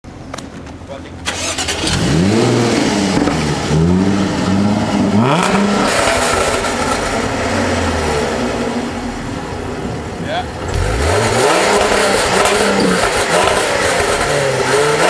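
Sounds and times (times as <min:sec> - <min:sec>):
car engine revving: 0:01.2 - 0:15.0.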